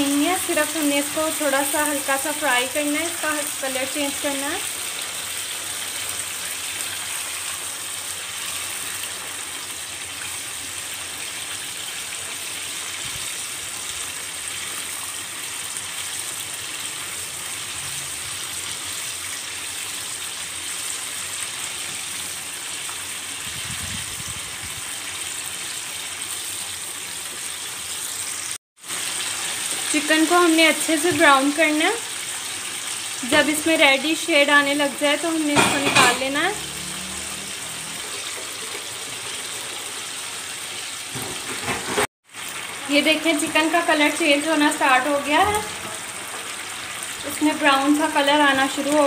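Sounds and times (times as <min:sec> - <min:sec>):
chicken sizzling in hot oil: 0:00.0 - 0:49.0.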